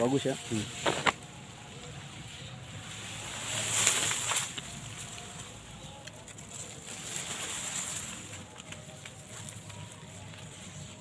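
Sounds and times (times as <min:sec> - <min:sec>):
outdoor rustling and hiss: 0:00.0 - 0:11.0.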